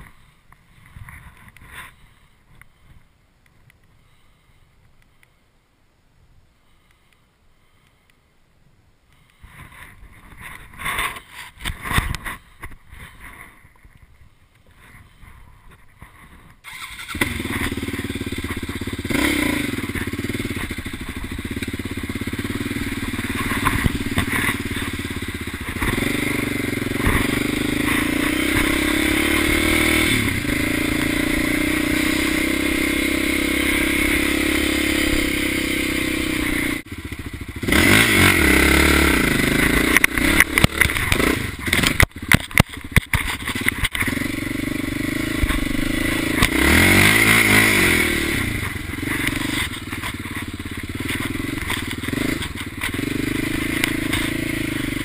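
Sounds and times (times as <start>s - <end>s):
dirt bike engine: 9.1s - 55.0s.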